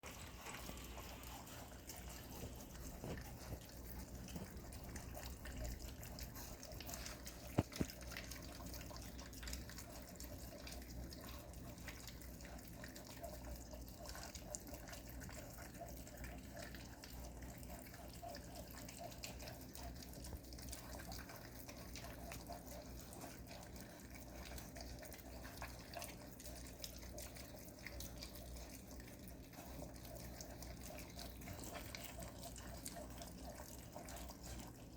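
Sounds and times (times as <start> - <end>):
puppies lapping and chewing: 0.0 - 34.9.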